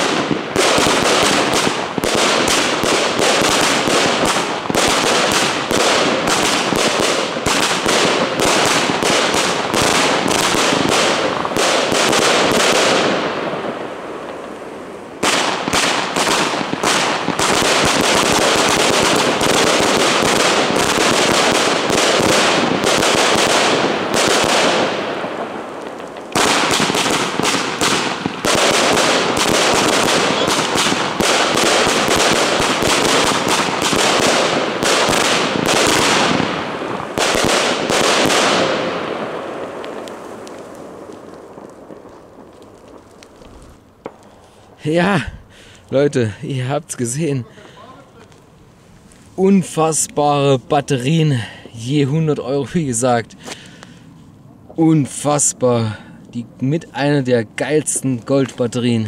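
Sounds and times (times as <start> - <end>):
fireworks crackling: 0.0 - 59.0.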